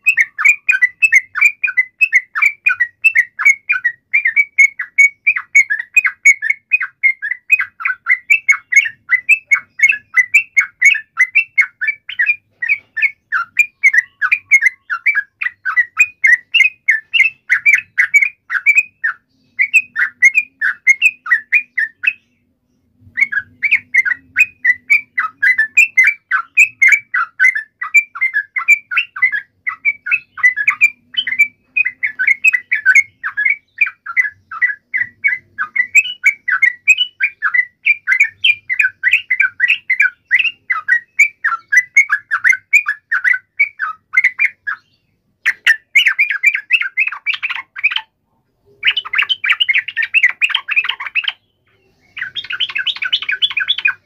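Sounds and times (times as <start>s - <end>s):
bird chattering calls: 0.0s - 22.4s, 23.2s - 54.0s.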